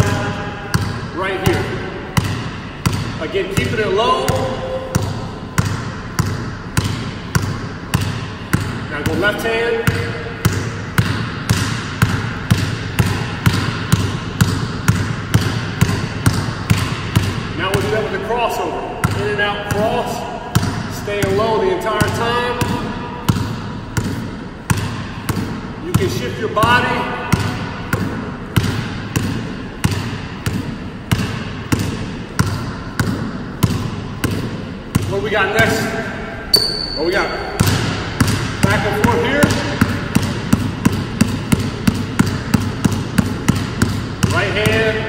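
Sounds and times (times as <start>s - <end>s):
basketball bouncing on wooden floor: 0.0s - 18.1s, 18.9s - 45.0s.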